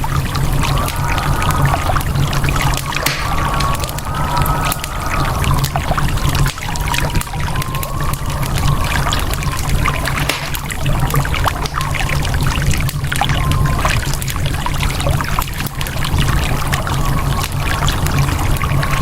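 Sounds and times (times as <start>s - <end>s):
fire crackling and popping: 0.0s - 19.0s
running water: 0.0s - 19.0s
steady low rumble: 0.0s - 19.0s.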